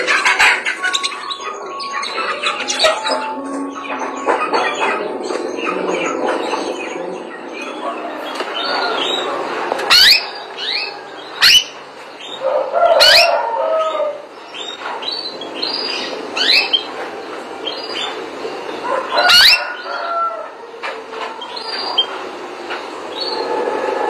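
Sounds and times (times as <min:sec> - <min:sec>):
canary singing: 0:00.0 - 0:20.4, 0:21.2 - 0:22.2.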